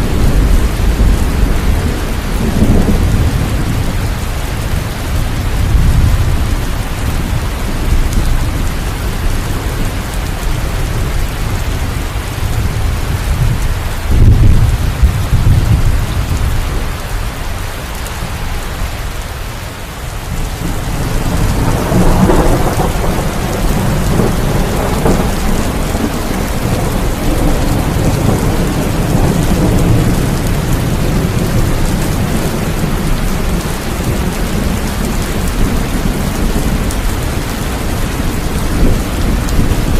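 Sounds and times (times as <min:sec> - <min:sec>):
thunder rumbling: 0:00.0 - 0:17.3, 0:20.1 - 0:39.9
steady rain: 0:00.0 - 0:39.9.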